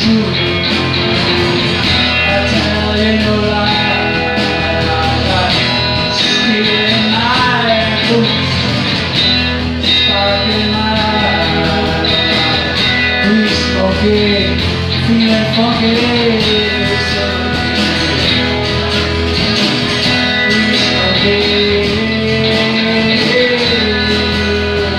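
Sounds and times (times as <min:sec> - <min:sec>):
rock band playing: 0:00.0 - 0:24.9.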